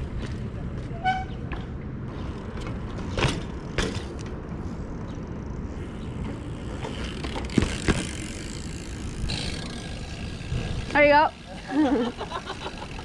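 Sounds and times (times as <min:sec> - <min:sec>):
low rumble of city noise: 0:00.0 - 0:13.0.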